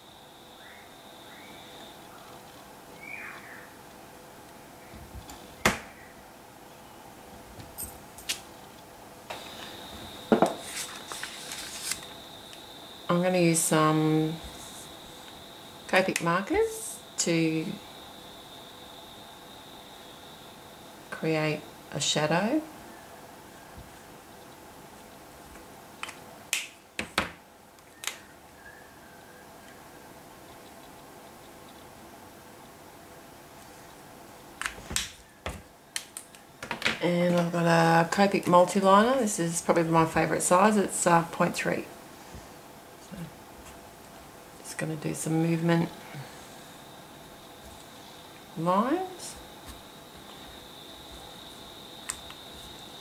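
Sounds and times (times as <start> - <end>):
faint high whine: 0.0 - 25.4, 27.9 - 53.0
faint hum: 0.0 - 53.0.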